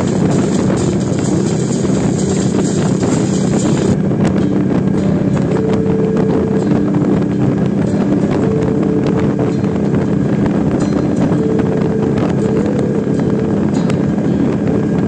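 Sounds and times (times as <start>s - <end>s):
motorcycle engine cruising: 0.0s - 15.0s
slow music melody: 0.0s - 15.0s
wind rushing over microphone: 0.0s - 15.0s.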